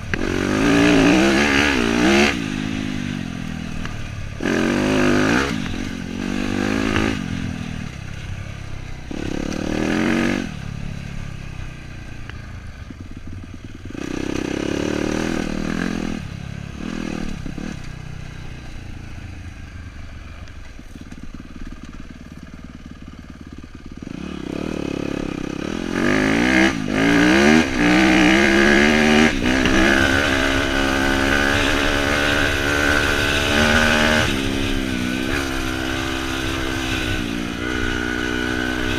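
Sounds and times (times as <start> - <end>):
dirt bike engine revving: 0.0 - 19.6, 20.9 - 38.9.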